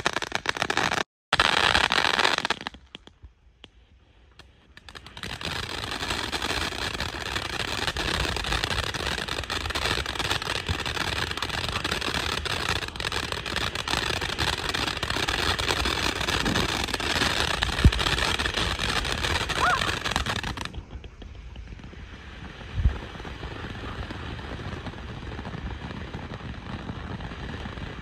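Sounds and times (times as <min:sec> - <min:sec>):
firework fountain hissing and crackling: 0:00.0 - 0:28.0.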